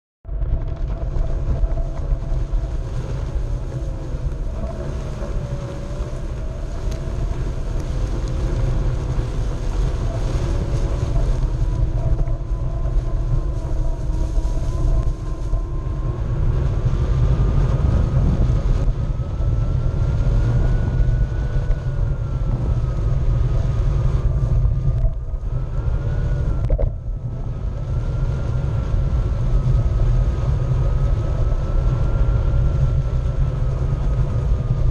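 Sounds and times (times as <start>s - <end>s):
wind rumble on microphone: 0.2s - 34.9s
electric motor whining: 0.6s - 33.4s.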